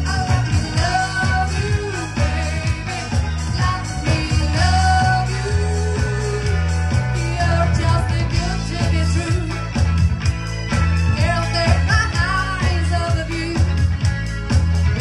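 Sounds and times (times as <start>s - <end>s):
bass line: 0.0s - 15.0s
live pop-rock band playing: 0.0s - 15.0s.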